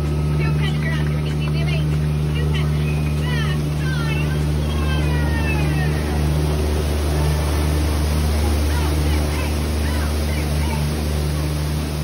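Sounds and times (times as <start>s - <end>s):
boat motor humming: 0.0s - 12.0s
rushing water: 0.0s - 12.0s
waterfall splashing: 0.0s - 12.0s.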